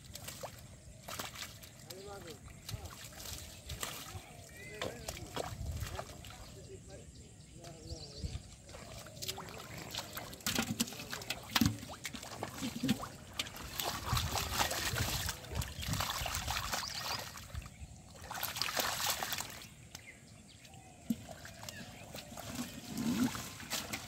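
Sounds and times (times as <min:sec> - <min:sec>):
wet slaps and splashes: 0:00.0 - 0:06.4, 0:08.7 - 0:17.6, 0:18.2 - 0:20.2, 0:21.0 - 0:24.0
hands squelching through mud: 0:00.0 - 0:06.5, 0:08.6 - 0:20.1, 0:21.1 - 0:24.0.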